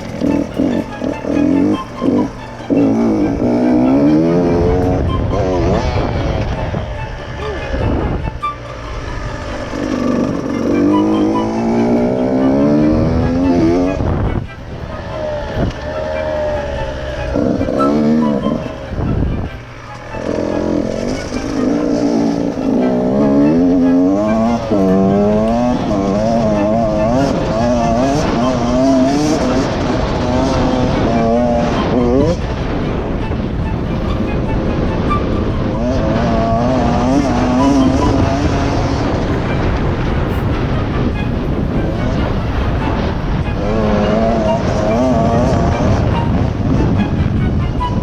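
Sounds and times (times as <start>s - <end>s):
dirt bike engine revving: 0.0s - 48.0s
rough noise: 0.0s - 48.0s.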